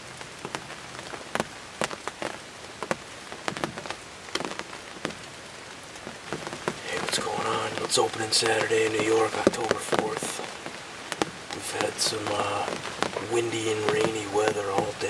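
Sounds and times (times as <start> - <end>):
rain hissing: 0.0 - 15.0
raindrops tapping: 0.0 - 15.0.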